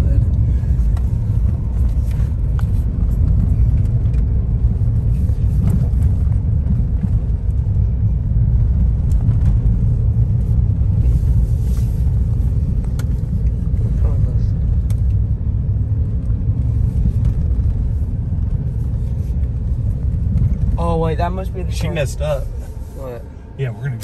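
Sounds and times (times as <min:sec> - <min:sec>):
vehicle driving on dirt trail: 0:00.0 - 0:24.0.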